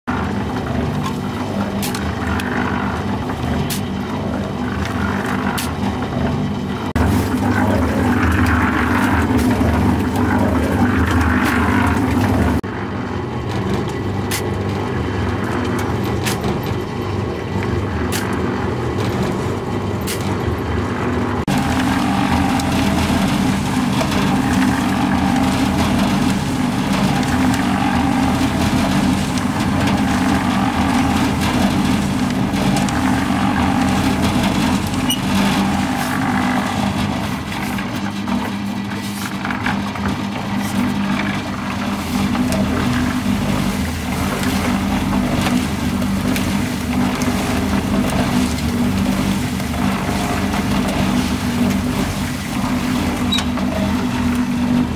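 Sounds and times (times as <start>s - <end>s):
concrete mixer running: 0.0s - 54.9s.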